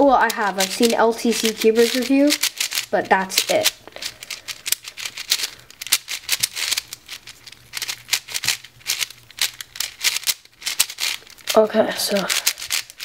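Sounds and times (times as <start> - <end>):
speed cube layers clicking: 0.0 - 13.0.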